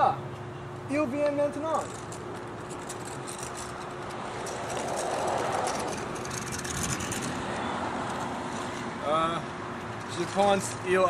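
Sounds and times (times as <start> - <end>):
scooter wheels rolling on asphalt: 0.9 - 11.0.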